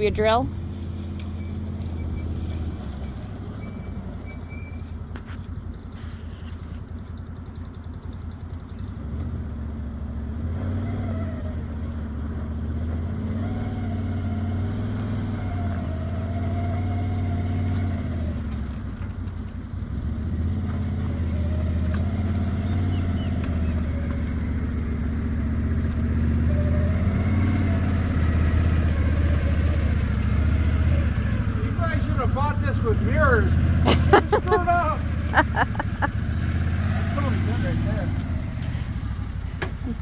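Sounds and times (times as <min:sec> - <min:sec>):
vehicle engine driving: 0:00.0 - 0:40.0.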